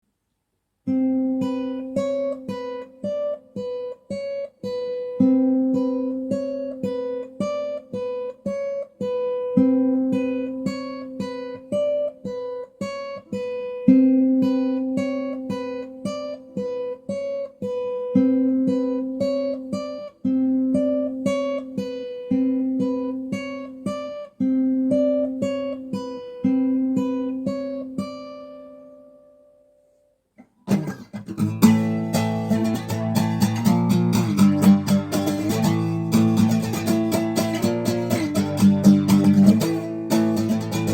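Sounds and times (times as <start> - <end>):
acoustic guitar melody: 0.8 - 40.9.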